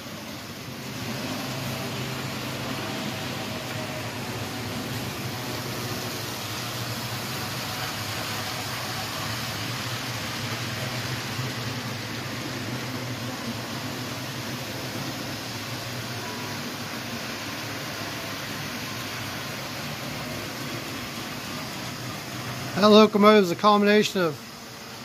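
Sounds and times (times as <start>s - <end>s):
model train motor hum: 0.0s - 25.0s.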